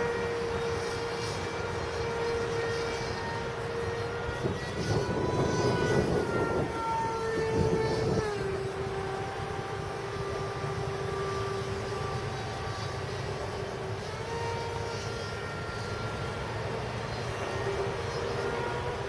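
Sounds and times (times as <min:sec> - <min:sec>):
jet fighter flying overhead: 0:00.0 - 0:19.0.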